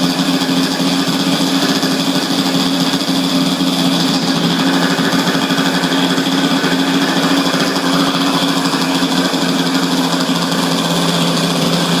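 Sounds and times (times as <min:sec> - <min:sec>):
small gasoline engine running: 0:00.0 - 0:12.0.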